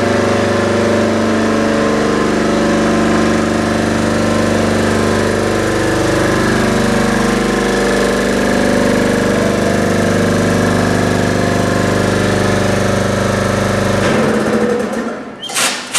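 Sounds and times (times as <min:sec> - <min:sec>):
air compressor pulsing: 0:00.0 - 0:15.9.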